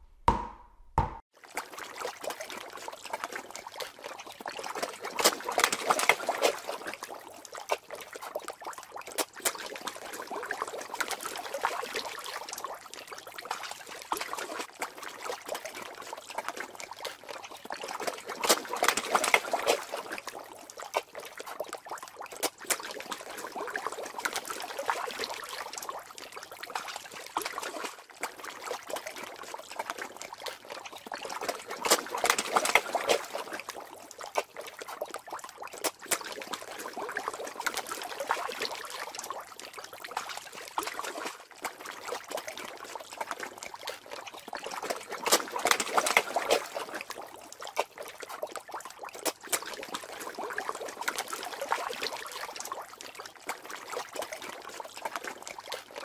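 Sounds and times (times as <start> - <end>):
water trickling and bubbling: 1.4 - 56.0.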